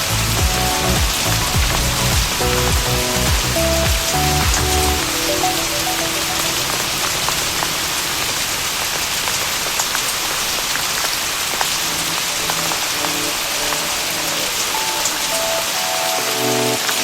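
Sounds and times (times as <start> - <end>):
rain falling on a surface: 0.0 - 17.0
wood fire crackling: 0.0 - 17.0.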